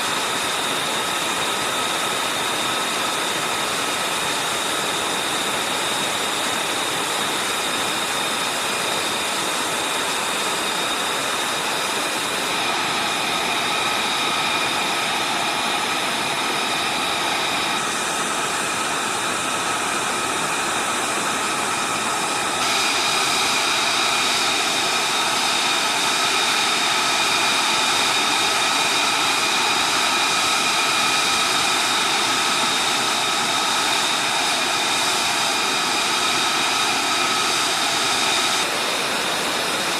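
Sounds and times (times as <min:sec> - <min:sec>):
jet engine running: 0:00.0 - 0:39.9.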